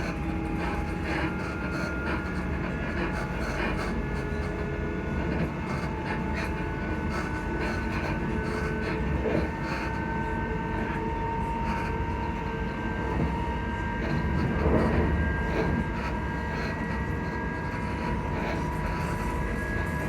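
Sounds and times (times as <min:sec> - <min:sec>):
electric train motor whine: 0:00.0 - 0:20.0
train running rumble: 0:00.0 - 0:20.0.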